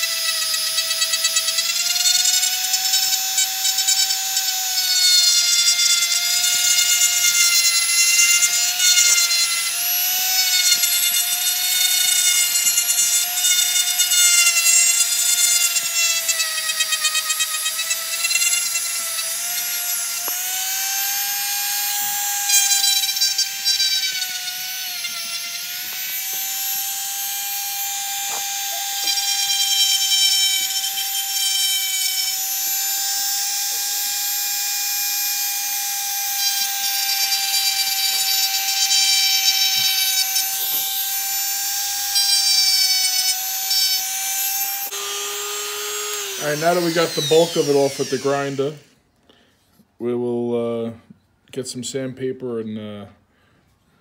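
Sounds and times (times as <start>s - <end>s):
rotary tool grinding whine: 0.0s - 49.0s.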